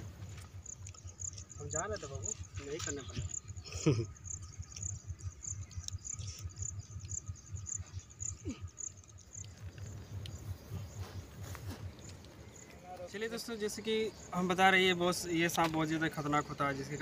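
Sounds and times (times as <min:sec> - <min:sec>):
insect chirping: 0:00.0 - 0:17.0
low crackling rustle: 0:00.0 - 0:17.0.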